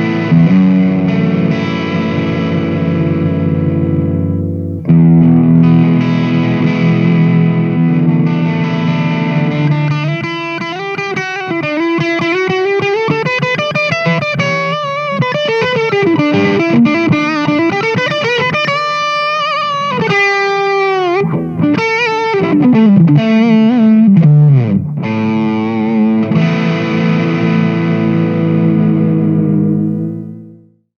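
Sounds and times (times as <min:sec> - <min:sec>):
overdriven electric guitar: 0:00.0 - 0:30.9.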